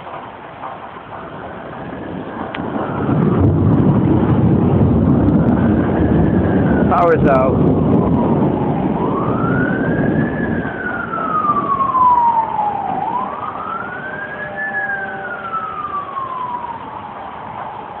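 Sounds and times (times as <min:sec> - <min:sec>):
siren wailing: 0:01.4 - 0:18.0.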